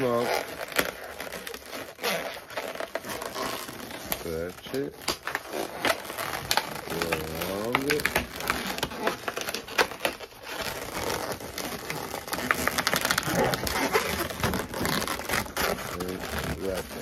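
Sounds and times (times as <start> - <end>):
balloons squeaking and crackling: 0.0 - 17.0.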